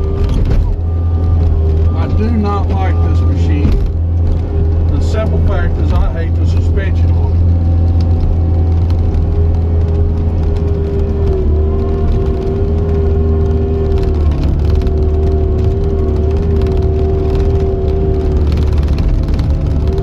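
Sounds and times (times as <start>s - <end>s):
deep diesel hum: 0.0s - 20.0s.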